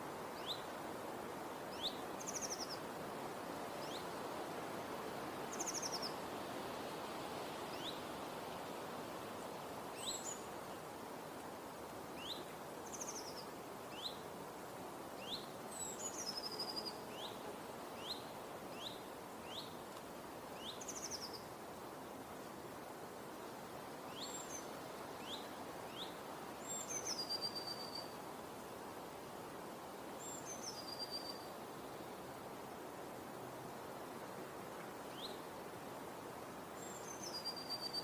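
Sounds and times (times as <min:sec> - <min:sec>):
background hiss: 0:00.0 - 0:38.0.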